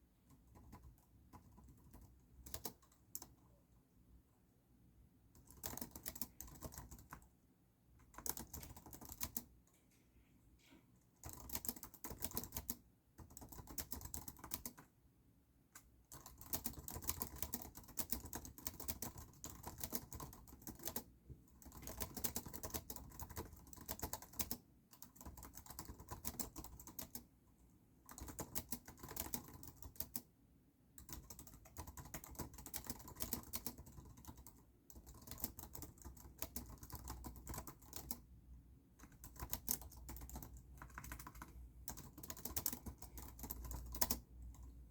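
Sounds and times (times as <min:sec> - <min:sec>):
computer keyboard typing: 0:00.3 - 0:03.5, 0:05.3 - 0:07.3, 0:08.0 - 0:09.5, 0:11.2 - 0:14.9, 0:15.8 - 0:27.3, 0:28.0 - 0:30.3, 0:31.0 - 0:38.3, 0:39.0 - 0:44.9.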